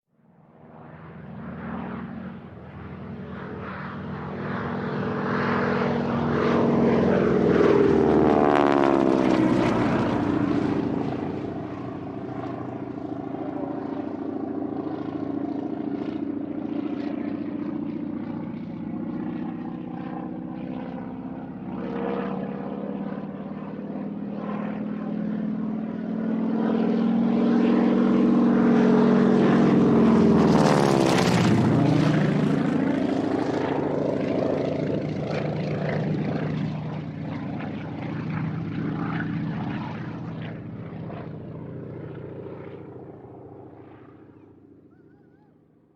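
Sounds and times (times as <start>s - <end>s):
propeller plane flying past: 0.2s - 45.9s.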